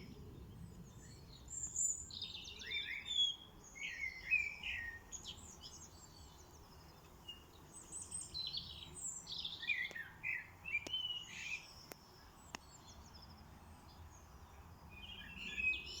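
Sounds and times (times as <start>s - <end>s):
songbirds twittering: 0.0s - 16.0s.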